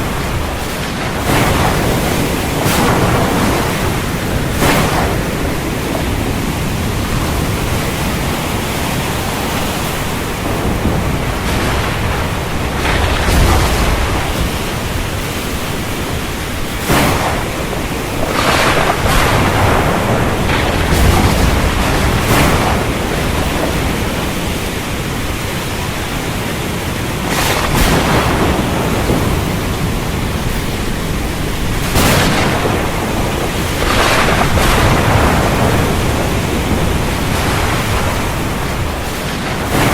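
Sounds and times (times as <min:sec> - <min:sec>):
strong wind: 0:00.0 - 0:39.9
surf rushing: 0:00.0 - 0:39.9
waves crashing: 0:00.0 - 0:39.9.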